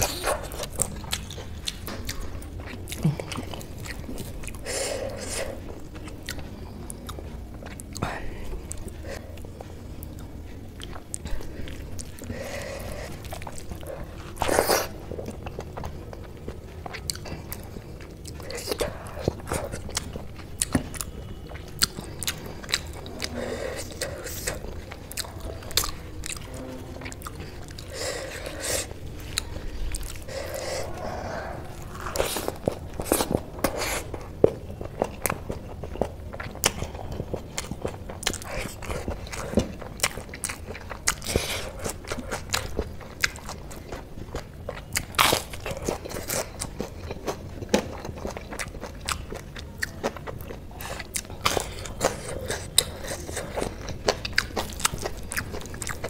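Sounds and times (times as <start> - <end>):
chewing and mouth sounds: 0.0 - 56.0.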